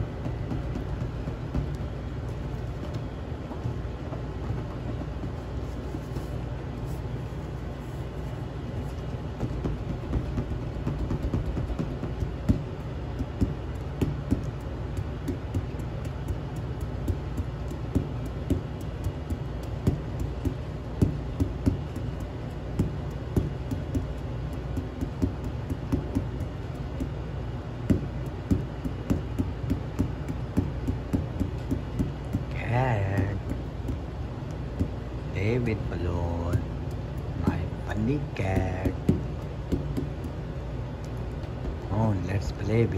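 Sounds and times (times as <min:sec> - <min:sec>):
light taps on rubber balloon: 0:00.0 - 0:06.3, 0:09.0 - 0:40.4
steady low rumble: 0:00.0 - 0:42.9.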